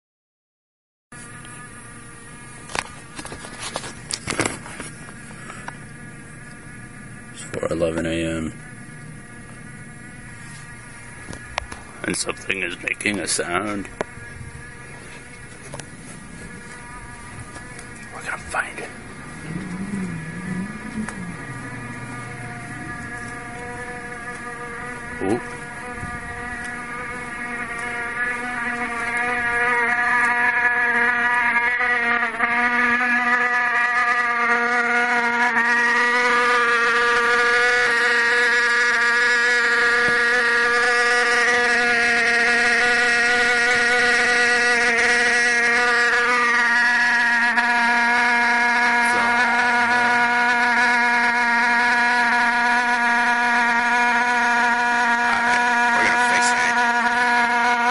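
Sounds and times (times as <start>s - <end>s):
electrical buzz: 1.2s - 57.9s.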